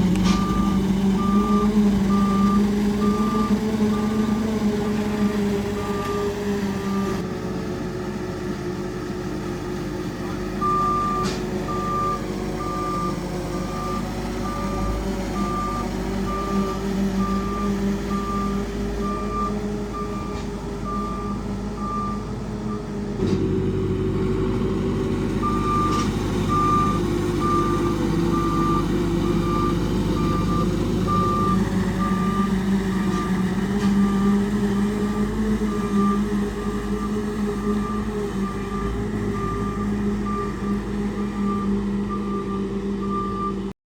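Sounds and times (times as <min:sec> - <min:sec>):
vehicle engine running: 0:00.0 - 0:43.7
reversing alarm beeping: 0:00.2 - 0:04.5, 0:05.2 - 0:07.2, 0:10.6 - 0:22.9, 0:25.4 - 0:43.7.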